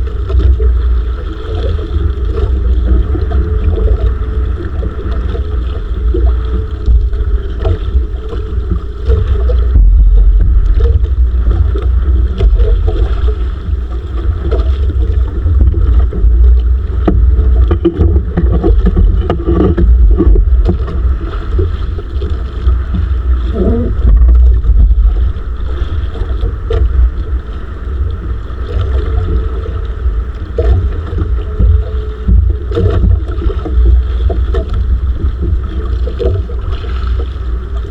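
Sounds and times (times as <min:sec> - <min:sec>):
wind buffeting microphone: 0:00.0 - 0:36.8
wind and water wash: 0:00.0 - 0:37.9.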